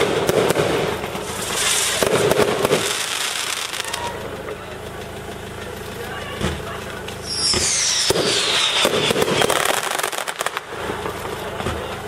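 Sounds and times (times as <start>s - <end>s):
fireworks crackling and popping: 0.0s - 4.6s, 5.8s - 12.0s.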